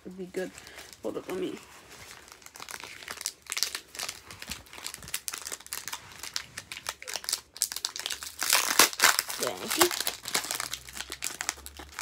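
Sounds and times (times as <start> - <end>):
foil wrapper crinkling: 0.3 - 12.0.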